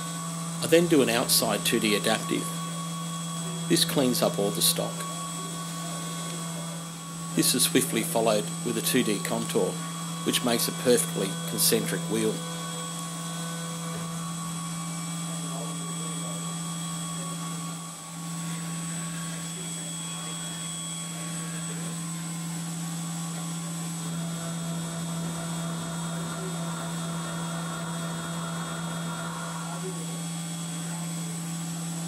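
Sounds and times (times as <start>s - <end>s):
milling machine hum and whine: 0.0s - 32.0s.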